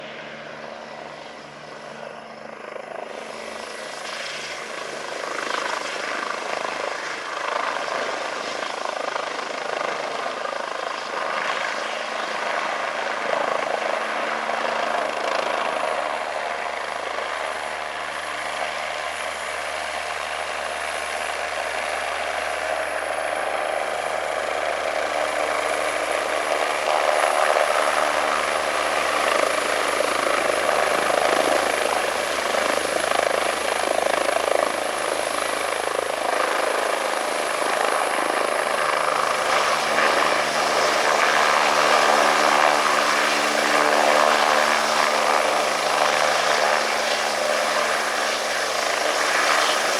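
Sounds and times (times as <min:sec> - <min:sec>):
helicopter rotor noise: 0:00.0 - 0:49.9
helicopter turbine whine: 0:00.0 - 0:49.9.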